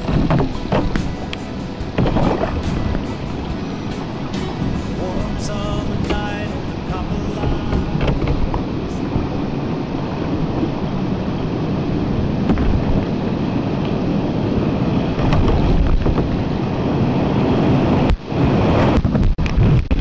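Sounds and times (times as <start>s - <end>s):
river water rushing: 0.0s - 18.8s.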